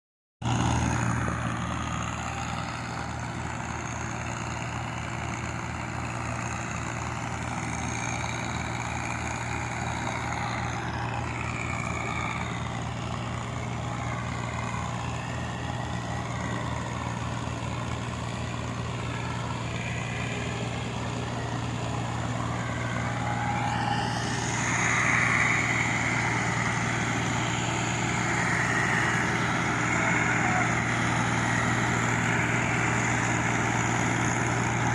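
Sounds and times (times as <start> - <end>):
tractor diesel engine chugging: 0.4 - 34.9.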